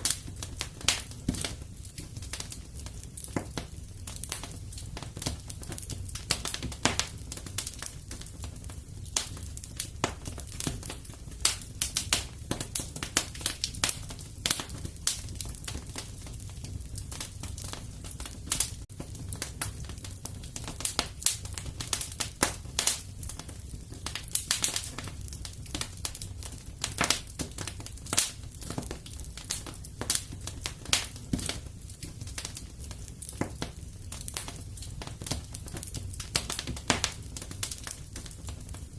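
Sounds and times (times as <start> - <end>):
fire rumbling: 0.0 - 38.9
wood crackling and popping: 0.0 - 38.9.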